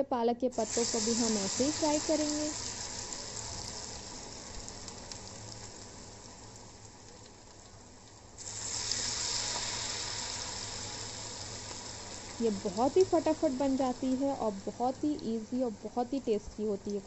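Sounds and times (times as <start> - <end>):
battered leaves deep-frying in oil: 0.5 - 17.0.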